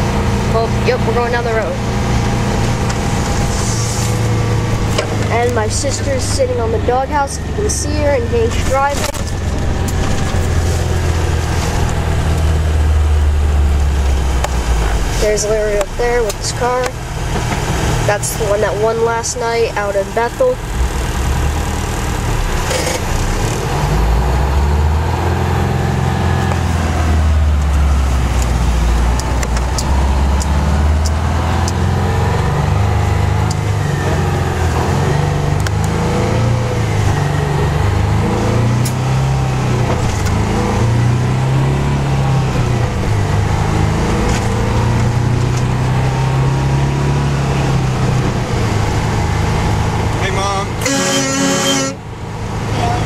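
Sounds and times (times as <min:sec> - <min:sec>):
truck diesel engine accelerating: 0:00.0 - 0:53.0.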